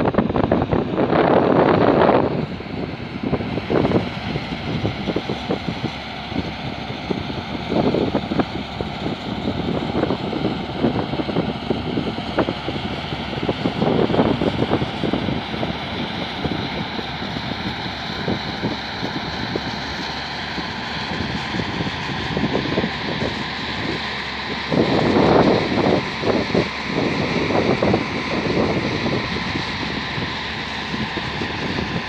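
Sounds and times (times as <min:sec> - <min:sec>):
tractor diesel engine running: 0:00.0 - 0:32.0
wind buffeting microphone: 0:00.0 - 0:32.0.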